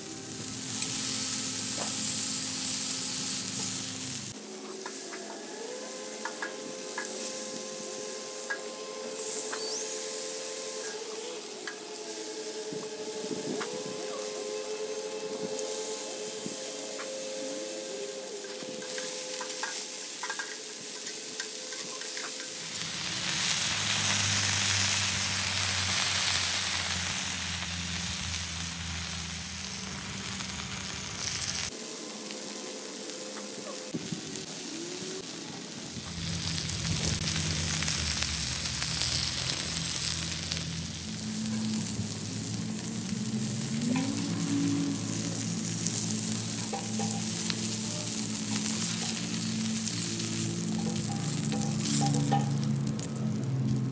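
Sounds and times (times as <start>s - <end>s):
patties sizzling on a griddle: 0.0s - 53.9s.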